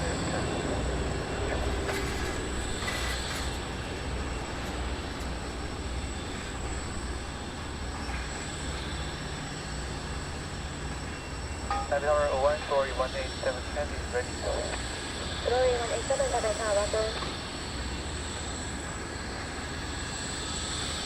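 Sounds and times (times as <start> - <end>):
jet engine high whine: 0.0 - 21.0
jet engine rumble: 0.0 - 21.0.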